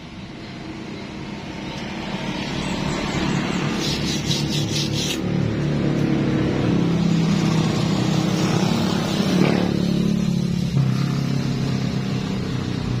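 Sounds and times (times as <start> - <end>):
engine running: 0.0 - 13.0
engine revving: 1.4 - 13.0.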